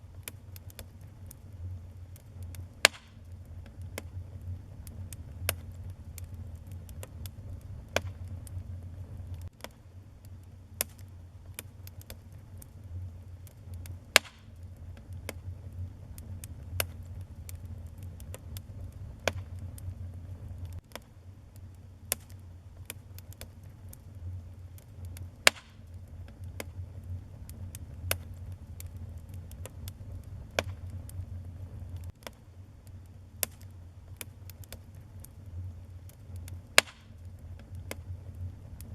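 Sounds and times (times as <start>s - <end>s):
low steady fire rumble: 0.0s - 38.9s
sharp snaps of fire: 0.0s - 38.9s
wood fire crackling and popping: 0.0s - 38.9s.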